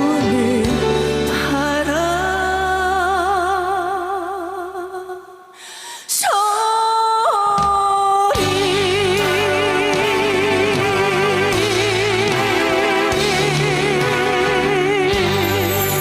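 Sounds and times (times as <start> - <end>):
ballad accompaniment: 0.0 - 5.9, 7.6 - 16.0
woman singing with vibrato: 0.0 - 16.0.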